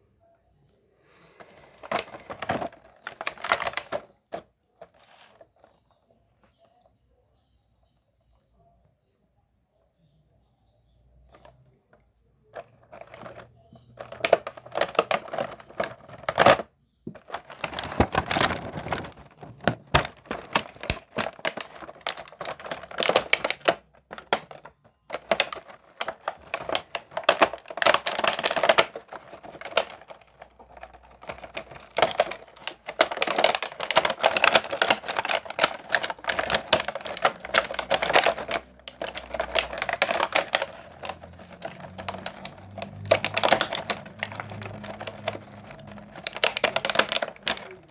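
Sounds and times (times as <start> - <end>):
packaging crackling: 1.3 - 5.8, 12.6 - 16.6, 17.2 - 47.9.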